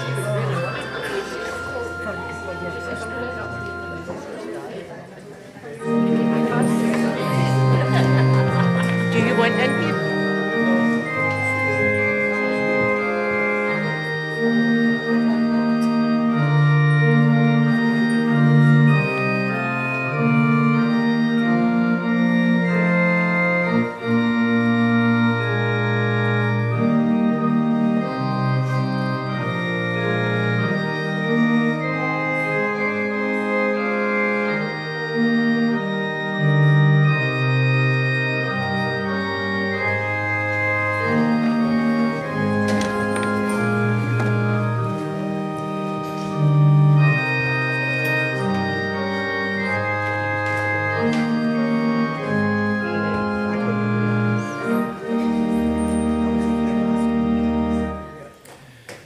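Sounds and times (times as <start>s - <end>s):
organ playing sustained chords: 0.0s - 58.9s.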